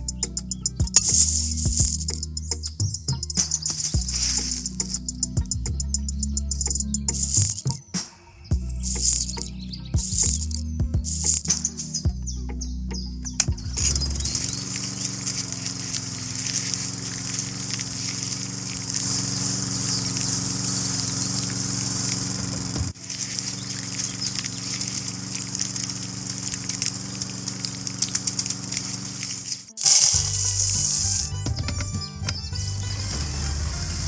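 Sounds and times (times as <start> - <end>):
small electric motor running: 0.0 - 7.8, 8.8 - 12.2, 13.4 - 34.0
crackling hiss: 0.0 - 31.4.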